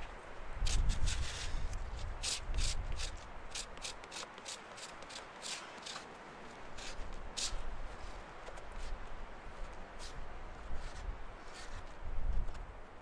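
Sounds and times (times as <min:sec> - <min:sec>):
rubbing and scraping strokes: 0:00.6 - 0:09.0, 0:09.6 - 0:12.0.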